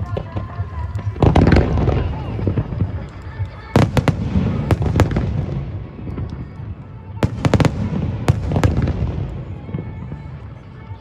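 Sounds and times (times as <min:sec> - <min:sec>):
fireworks sharp cracks: 0:00.0 - 0:11.0.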